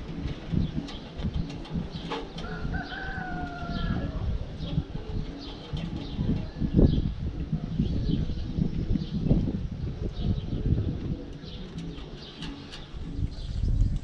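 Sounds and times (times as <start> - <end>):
low rumble with thumps: 0.0 - 14.0.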